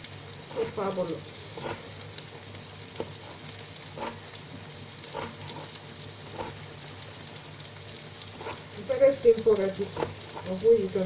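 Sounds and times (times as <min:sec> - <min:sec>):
stew sizzling in a pot: 0:00.0 - 0:11.0.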